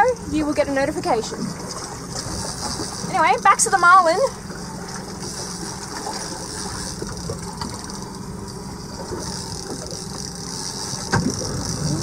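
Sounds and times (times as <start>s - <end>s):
outboard motor humming: 0.0s - 12.0s
wind and water hiss: 0.0s - 12.0s.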